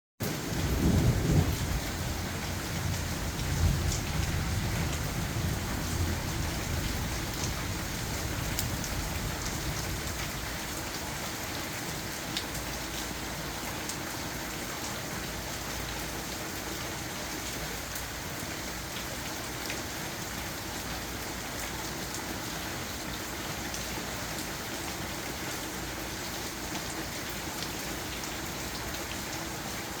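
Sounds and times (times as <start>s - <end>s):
steady rain falling: 0.2s - 30.0s.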